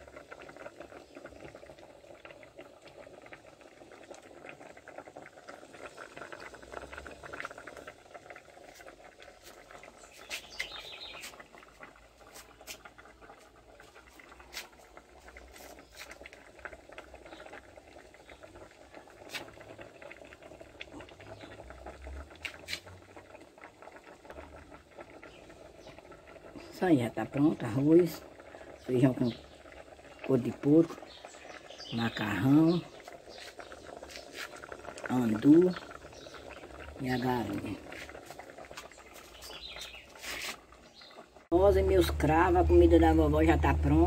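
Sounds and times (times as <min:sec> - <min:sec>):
pots bubbling: 0:00.0 - 0:44.0
wood fire crackling: 0:00.0 - 0:44.0.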